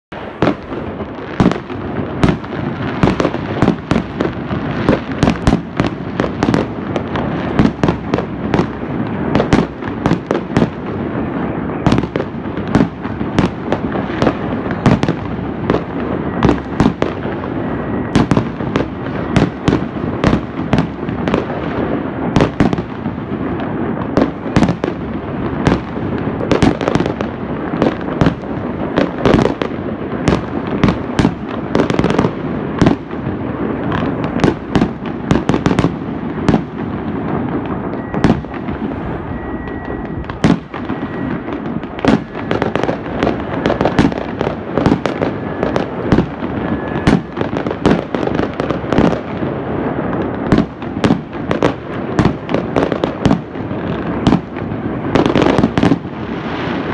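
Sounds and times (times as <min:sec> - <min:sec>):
firecrackers crackling: 0:00.1 - 0:56.9
fireworks bangs: 0:00.1 - 0:56.9.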